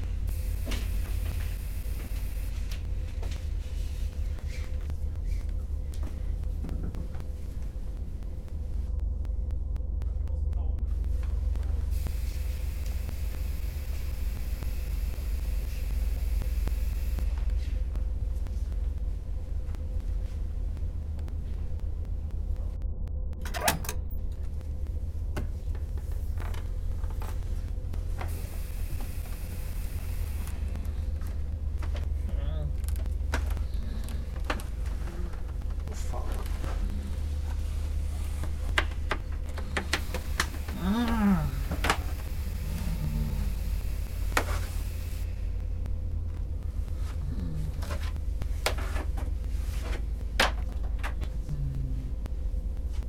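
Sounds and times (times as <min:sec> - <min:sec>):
steady low hum: 0:00.0 - 0:53.0
steady low rumble: 0:00.0 - 0:53.0.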